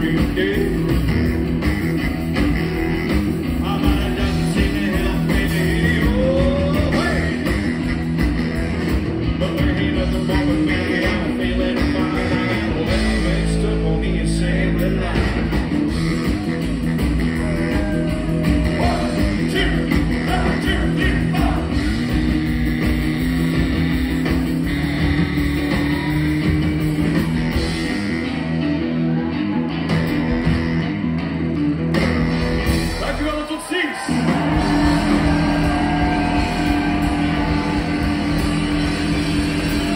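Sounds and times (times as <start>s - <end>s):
live rockabilly band playing: 0.0s - 39.9s.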